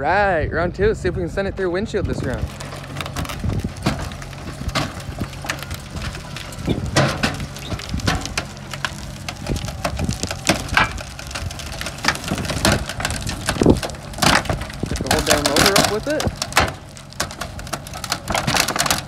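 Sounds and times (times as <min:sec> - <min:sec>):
engine knocks and cracks: 0:01.0 - 0:19.0
car engine running hard: 0:01.8 - 0:19.0.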